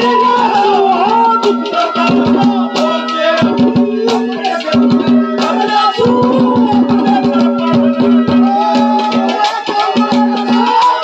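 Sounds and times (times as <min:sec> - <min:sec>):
hand drums and rattling percussion: 0:00.0 - 0:11.0.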